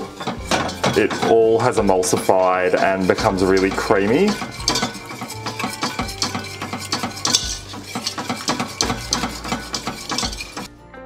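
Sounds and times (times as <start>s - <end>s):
whisk scraping a metal saucepan: 0.0s - 10.7s.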